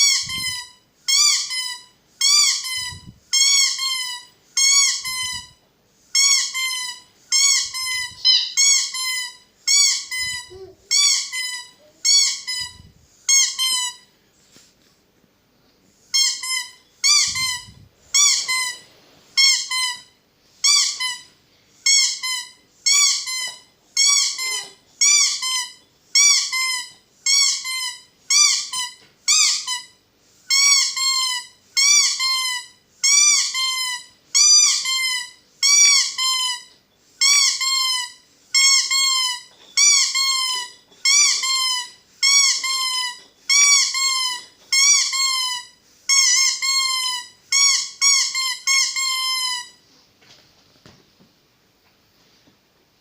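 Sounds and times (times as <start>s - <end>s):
squeaky toy squeaking: 0.0s - 14.1s, 16.1s - 18.8s, 19.4s - 49.8s.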